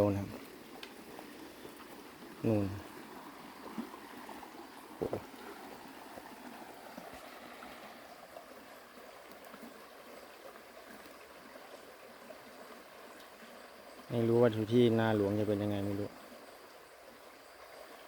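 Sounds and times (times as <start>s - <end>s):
runoff water flowing: 0.0s - 18.0s.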